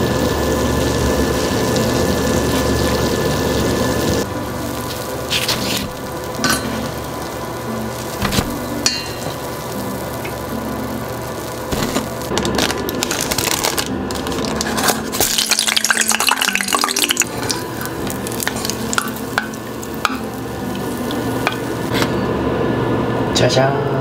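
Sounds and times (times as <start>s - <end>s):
deep-frying sizzle: 0.0s - 23.3s.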